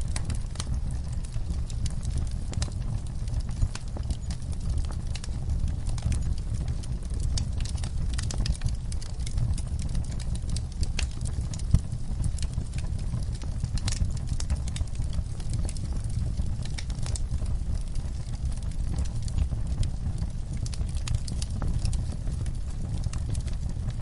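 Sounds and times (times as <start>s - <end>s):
fire crackling and popping: 0.0s - 24.0s
low rumble of burning: 0.0s - 24.0s.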